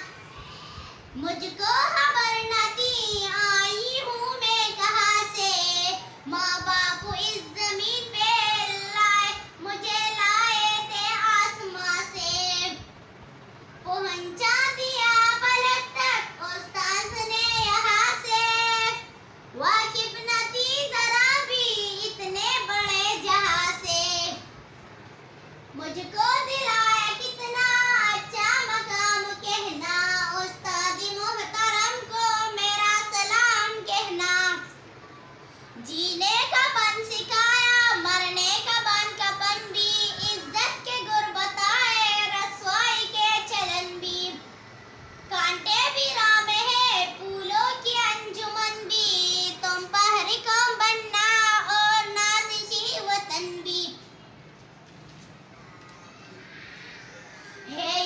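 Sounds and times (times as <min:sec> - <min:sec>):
girl singing unaccompanied: 0:00.0 - 0:54.4, 0:57.5 - 0:58.0.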